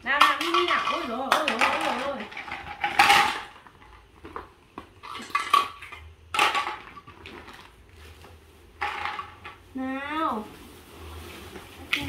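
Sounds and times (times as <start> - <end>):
small hard objects clattering: 0.0 - 9.7.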